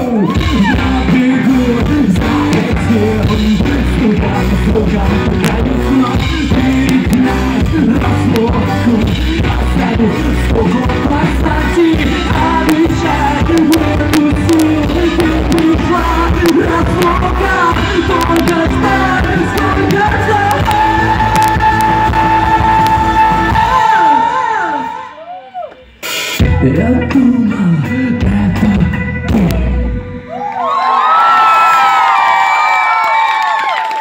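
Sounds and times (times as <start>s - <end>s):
live rock band playing: 0.0s - 25.0s, 25.9s - 30.4s.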